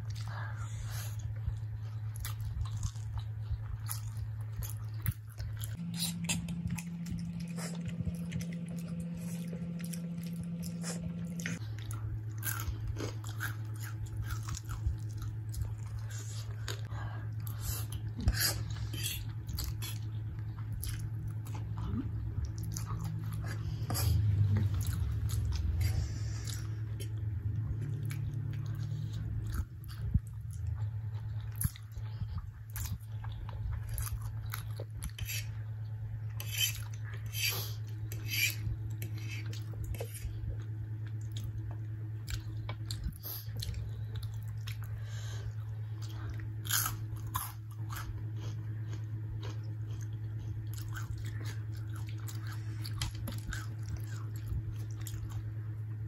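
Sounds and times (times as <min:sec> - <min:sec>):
steady low hum: 0:00.0 - 0:56.0
chewing and mouth smacks: 0:01.0 - 0:16.9, 0:17.5 - 0:35.6, 0:38.9 - 0:55.6.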